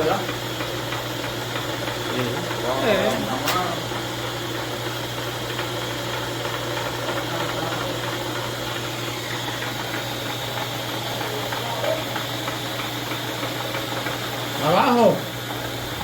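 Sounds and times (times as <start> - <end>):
machine tool humming and rattling: 0.0 - 16.0.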